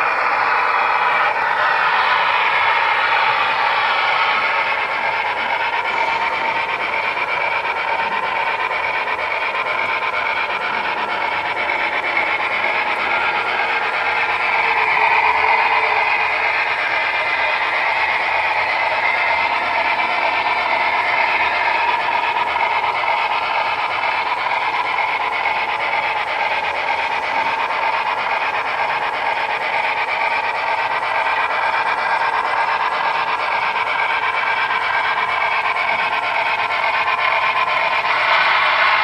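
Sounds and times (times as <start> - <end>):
steam locomotive sounds: 0.0 - 39.0.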